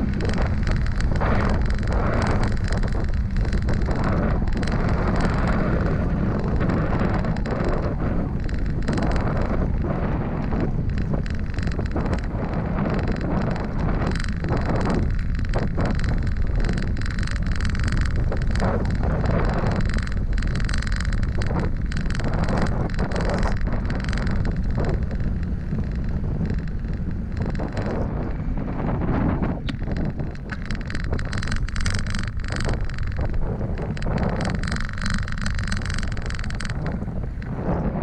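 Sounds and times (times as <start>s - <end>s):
knocks and rattles over bumps: 0.0s - 28.4s, 29.6s - 38.0s
bicycle rolling on asphalt: 0.0s - 38.0s
wind buffeting microphone: 0.0s - 38.0s.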